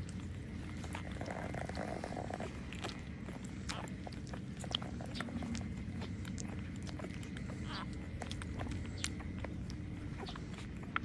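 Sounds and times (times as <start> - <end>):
puppies nursing noises: 0.0 - 11.0.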